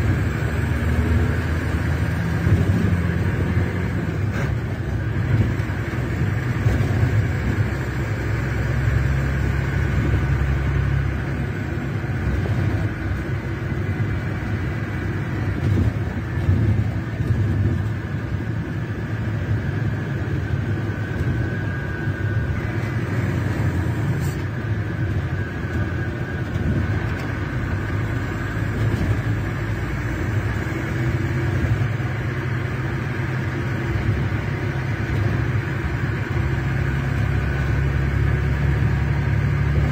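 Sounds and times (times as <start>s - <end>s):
diesel engine low rumble: 0.0s - 39.9s.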